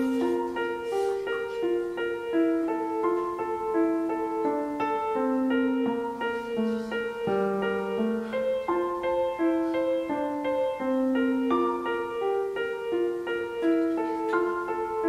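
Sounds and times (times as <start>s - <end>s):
gentle instrumental melody: 0.0s - 15.0s.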